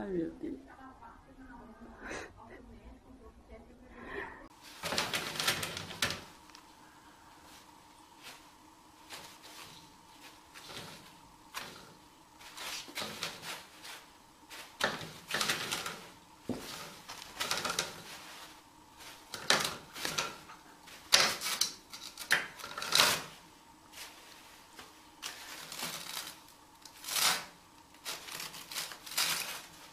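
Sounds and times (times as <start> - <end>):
faint steady hum: 0.0 - 29.9
toilet paper rustling: 4.5 - 29.9.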